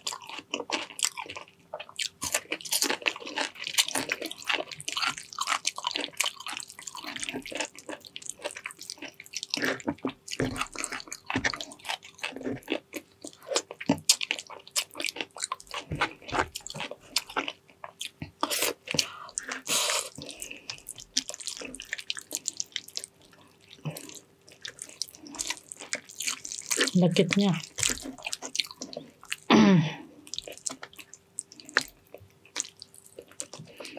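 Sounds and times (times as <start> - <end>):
wet chewing and lip smacking: 0.0 - 29.5, 30.2 - 33.9.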